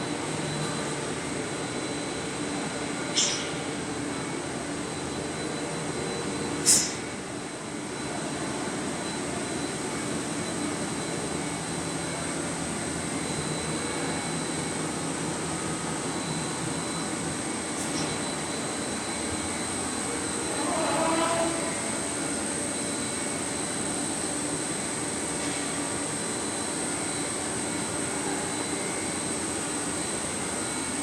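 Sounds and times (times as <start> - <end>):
industrial machinery with whine: 0.0 - 31.0.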